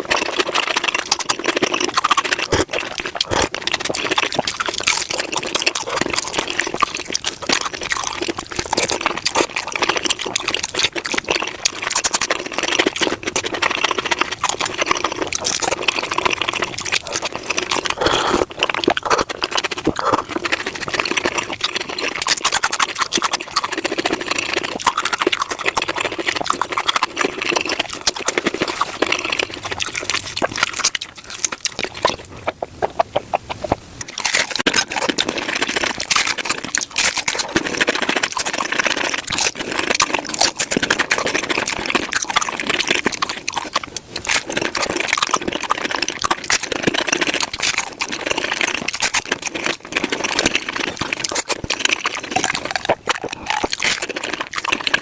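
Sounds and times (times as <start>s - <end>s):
sped-up crunching and chewing: 0.0s - 55.0s.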